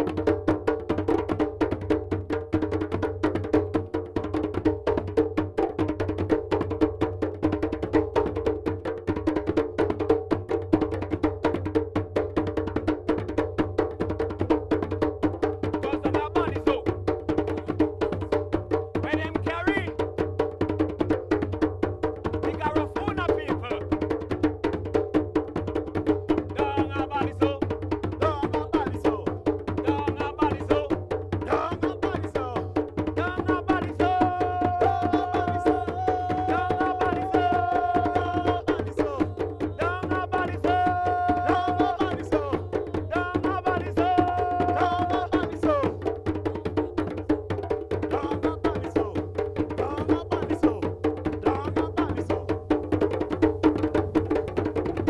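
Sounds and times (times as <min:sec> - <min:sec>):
hand drums playing fast rhythm: 0:00.0 - 0:55.0.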